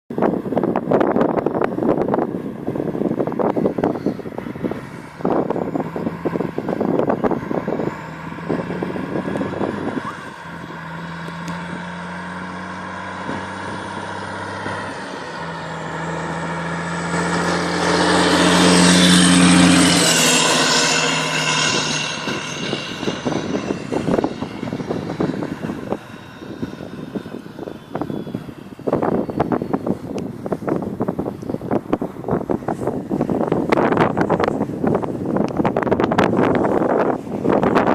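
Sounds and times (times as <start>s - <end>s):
wind buffeting microphone: 0.1s - 37.9s
truck driving past: 2.0s - 37.9s.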